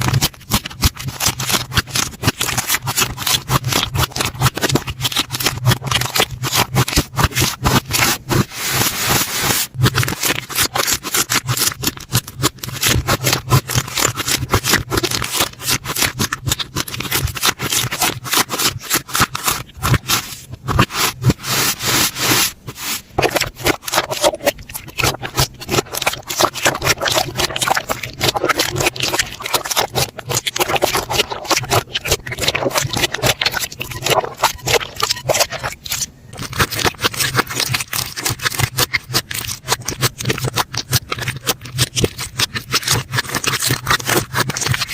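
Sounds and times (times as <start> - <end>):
hands squishing slime: 0.0 - 44.9.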